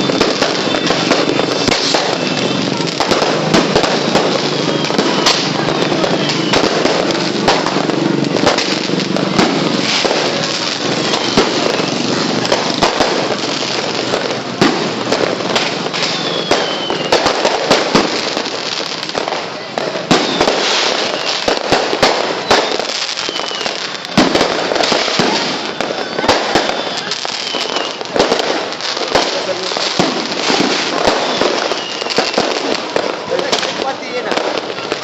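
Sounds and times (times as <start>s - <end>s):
falling firework whistles: 0.0s - 35.0s
fireworks bangs and crackles: 0.0s - 35.0s.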